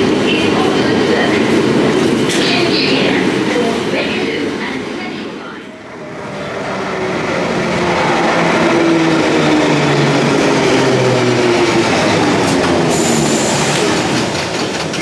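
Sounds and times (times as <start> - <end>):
underground train rumbling: 0.0 - 15.0.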